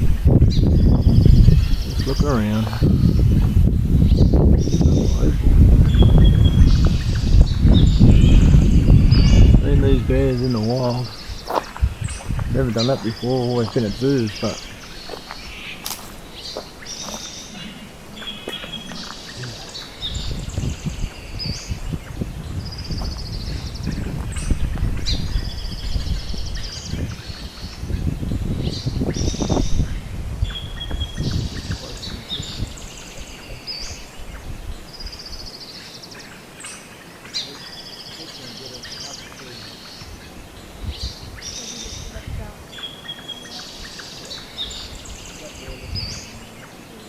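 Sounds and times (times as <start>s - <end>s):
birds chirping and whistling: 0.0s - 47.0s.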